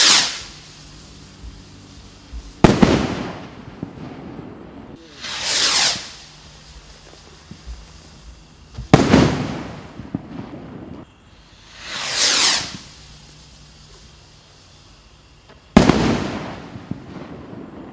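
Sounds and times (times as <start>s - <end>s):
firework bursting with bang: 0.0s - 17.9s
firework rocket whoosh: 0.0s - 17.9s.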